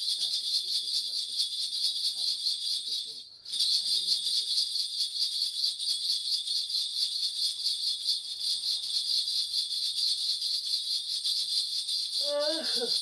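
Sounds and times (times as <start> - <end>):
ritual bells jingling: 0.0 - 13.0.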